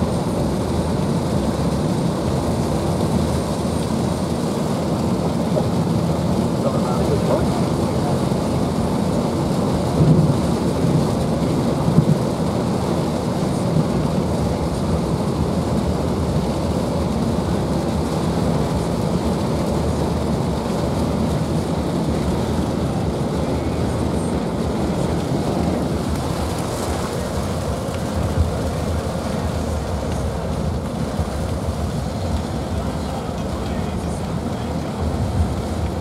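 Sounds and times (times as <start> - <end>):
heavy rain roaring: 0.0 - 36.0.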